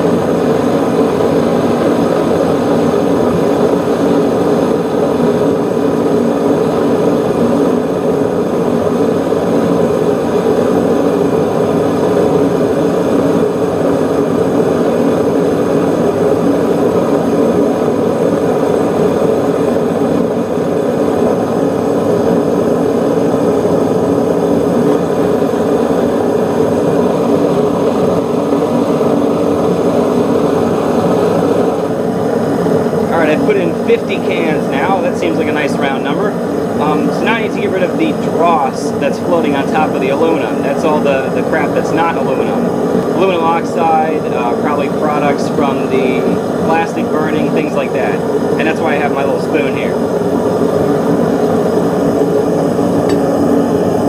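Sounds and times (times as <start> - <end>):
furnace burner roaring: 0.0 - 54.0.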